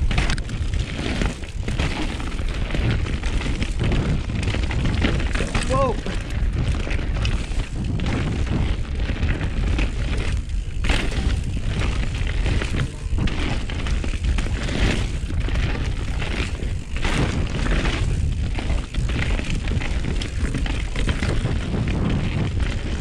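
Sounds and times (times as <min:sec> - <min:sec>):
bike rattling over rough ground: 0:00.0 - 0:23.0
wind buffeting microphone: 0:00.0 - 0:23.0.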